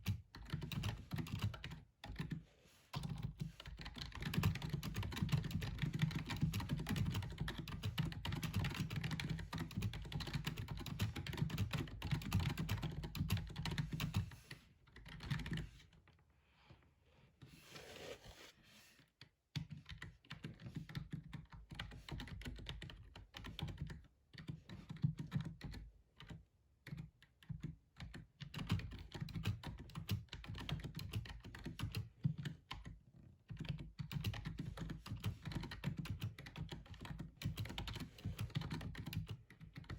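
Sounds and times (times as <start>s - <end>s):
fast typing on keyboard: 0.0s - 15.7s, 19.6s - 39.9s.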